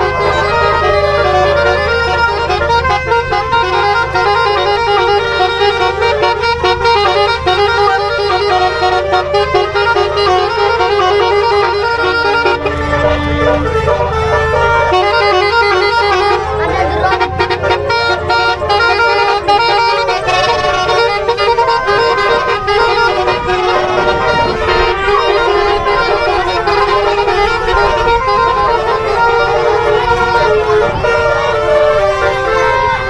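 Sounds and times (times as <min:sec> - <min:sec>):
engine rumble: 0:00.0 - 0:33.0
multi-tone air horn melody: 0:00.0 - 0:33.0.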